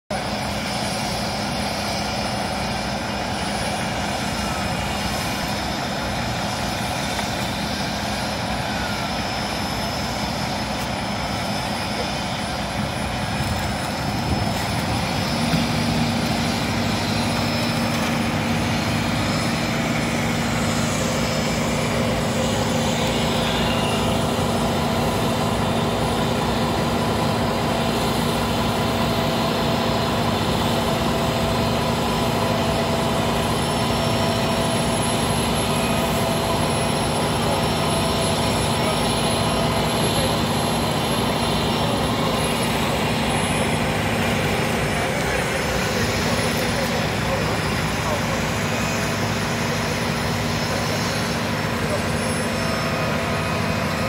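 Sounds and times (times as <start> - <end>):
diesel truck engines running: 0.1 - 54.0.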